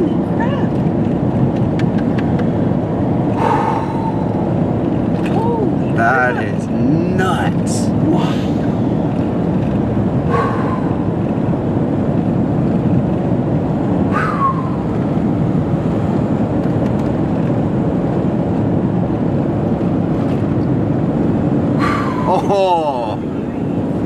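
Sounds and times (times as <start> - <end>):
road and tyre noise in car: 0.0 - 24.0.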